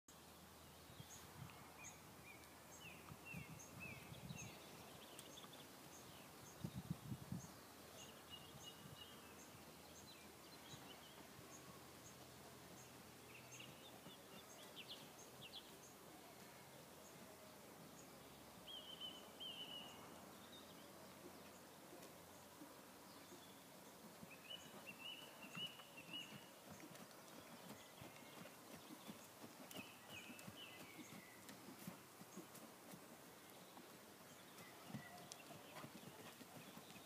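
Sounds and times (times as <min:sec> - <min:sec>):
faint birdsong: 0:00.1 - 0:37.0.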